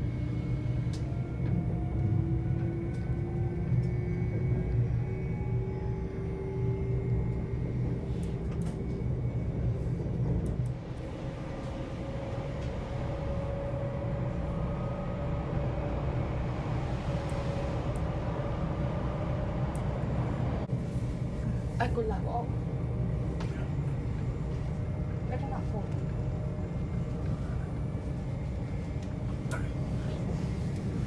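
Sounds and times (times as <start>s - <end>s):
train running gear rumble: 0.0s - 31.0s.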